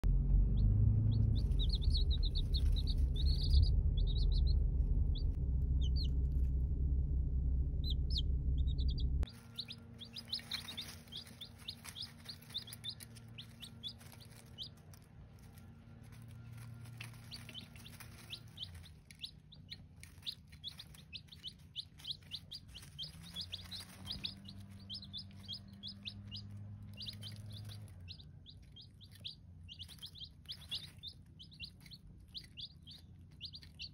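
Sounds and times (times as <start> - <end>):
baby chicks peeping: 0.0 - 6.4, 7.8 - 33.9
loud low rumble: 0.0 - 33.9.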